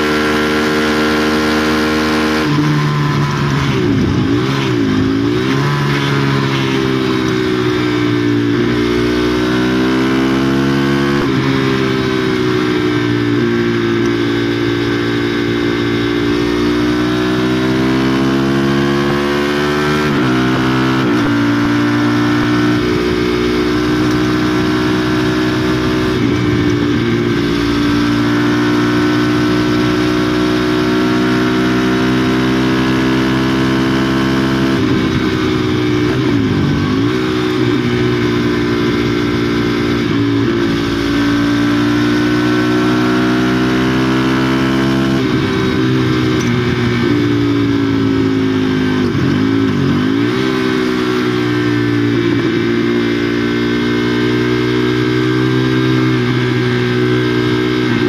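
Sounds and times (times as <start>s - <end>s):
motorcycle engine pulling under throttle: 0.0s - 58.0s.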